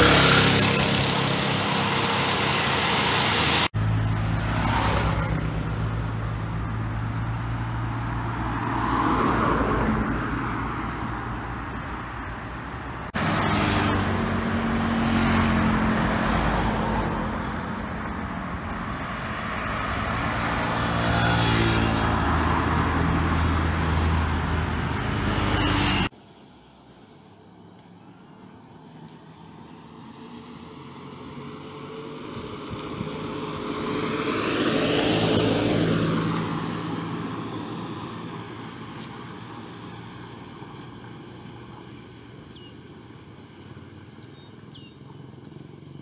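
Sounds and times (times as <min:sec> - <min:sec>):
motor scooter passing: 0:00.0 - 0:11.5, 0:13.1 - 0:26.1, 0:28.0 - 0:46.0
cars passing: 0:00.0 - 0:46.0.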